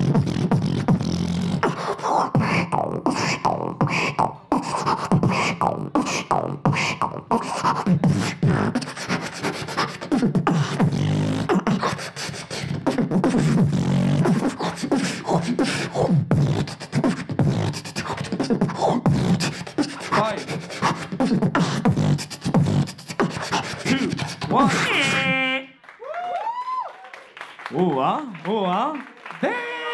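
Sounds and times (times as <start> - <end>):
person beatboxing: 0.0 - 25.6.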